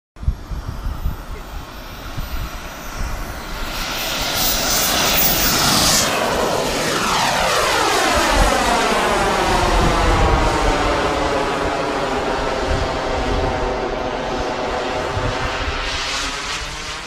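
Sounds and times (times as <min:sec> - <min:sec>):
model jet engine whining: 0:00.2 - 0:17.0.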